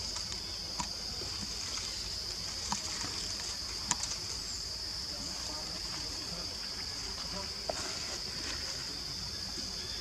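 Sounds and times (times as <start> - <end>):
high-pitched background hiss: 0.0 - 10.0.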